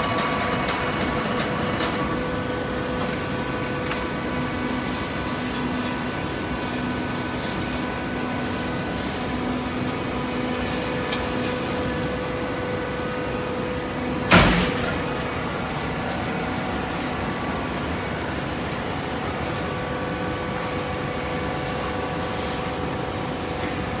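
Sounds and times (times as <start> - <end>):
baler machine hum: 0.0 - 24.0.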